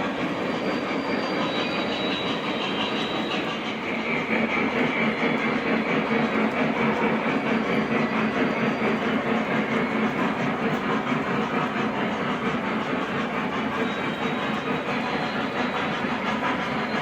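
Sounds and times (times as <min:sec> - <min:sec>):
model train wheels rumbling on track: 0:00.0 - 0:17.0.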